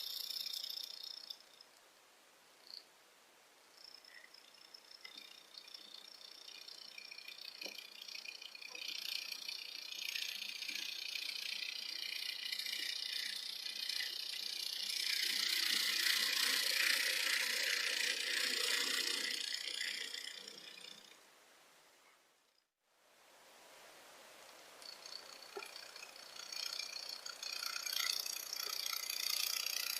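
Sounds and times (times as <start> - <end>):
small geared motor whirring: 0.0 - 1.6, 3.8 - 21.2, 24.8 - 29.9.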